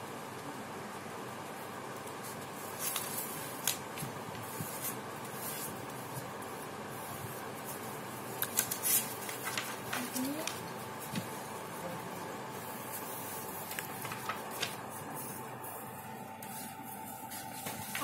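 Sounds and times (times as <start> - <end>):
paper rustling and folding: 2.0 - 11.9, 12.5 - 18.0
paper crackles: 2.0 - 18.0.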